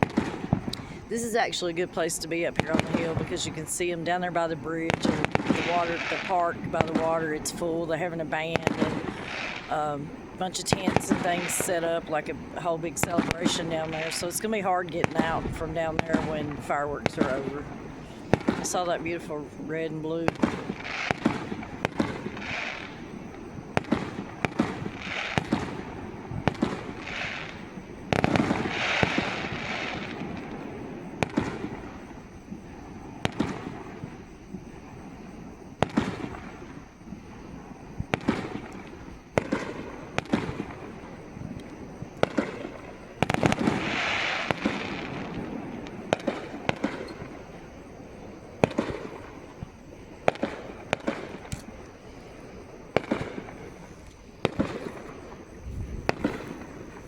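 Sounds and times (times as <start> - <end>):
firework shells booming: 0.0 - 19.4, 20.0 - 57.0
fireworks crackling and hissing: 0.0 - 57.0.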